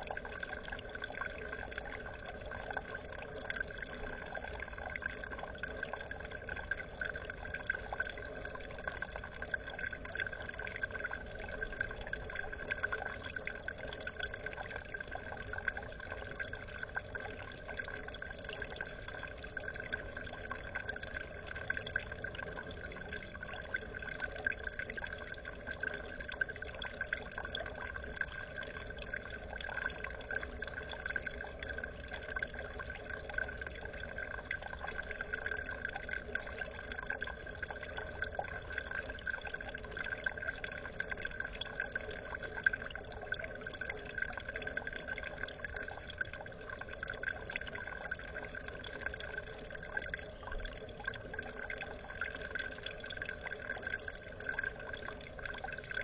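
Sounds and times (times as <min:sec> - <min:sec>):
water trickling into pond: 0:00.0 - 0:56.0.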